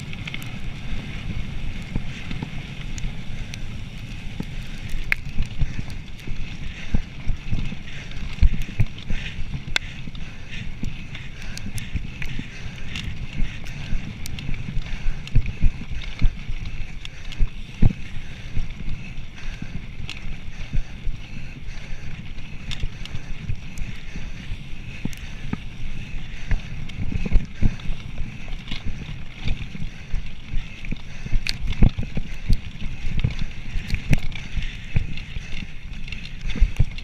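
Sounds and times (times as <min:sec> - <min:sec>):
bike tyre rumble on dirt trail: 0:00.0 - 0:37.0.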